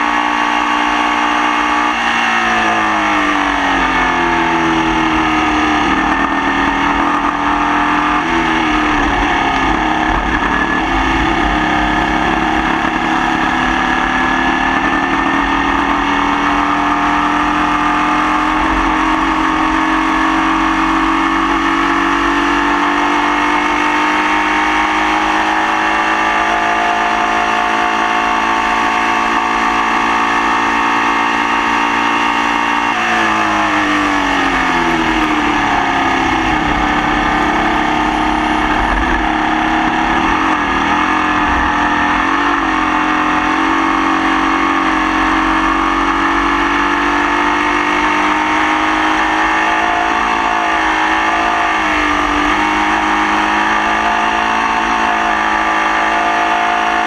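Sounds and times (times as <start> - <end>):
race car engine revving hard: 0.0 - 57.0.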